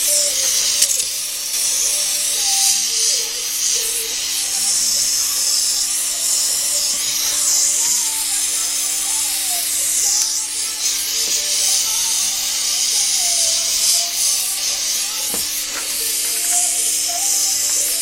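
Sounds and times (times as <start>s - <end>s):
gas torch flame hissing: 0.0s - 18.0s.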